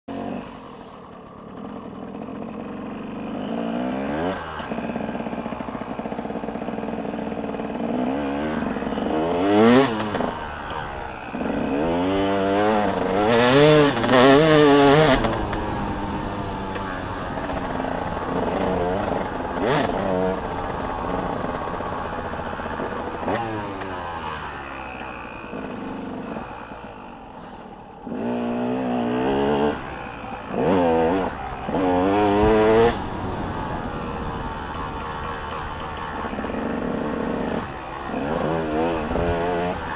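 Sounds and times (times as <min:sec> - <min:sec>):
dirt bike engines revving and passing: 0:00.1 - 0:39.9.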